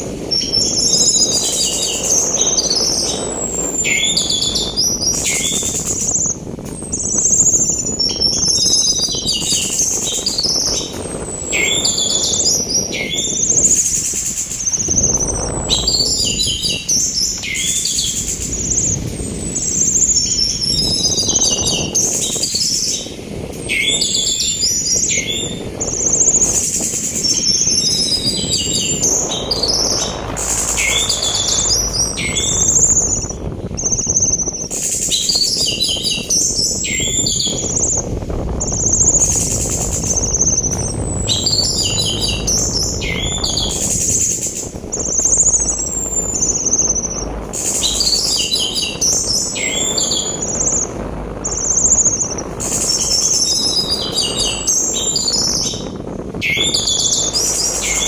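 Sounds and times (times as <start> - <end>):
sea wind rushing: 0.0 - 58.0
bird chirps and whistles: 0.3 - 38.0, 38.6 - 50.9, 51.5 - 58.0.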